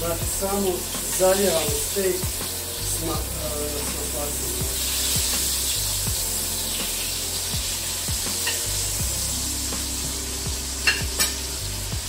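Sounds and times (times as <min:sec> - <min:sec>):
butter sizzling in a frying pan: 0:00.0 - 0:12.0.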